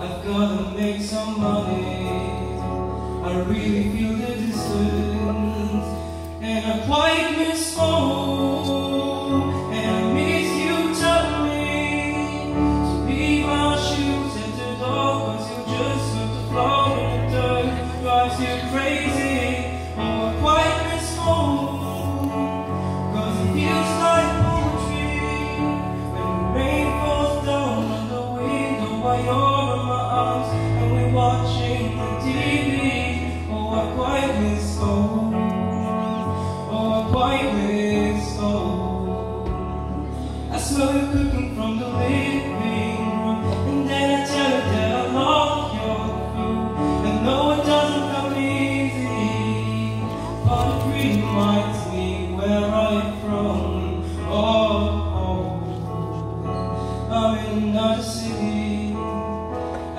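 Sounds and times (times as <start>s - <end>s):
digital piano chords: 0.0s - 59.9s
man singing pop ballad: 0.0s - 59.9s.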